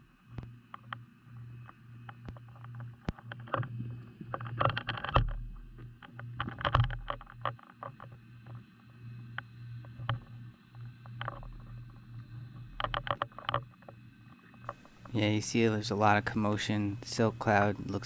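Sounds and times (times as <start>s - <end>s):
low underwater hum: 0.0s - 18.0s
sharp underwater clicks and knocks: 0.3s - 15.2s.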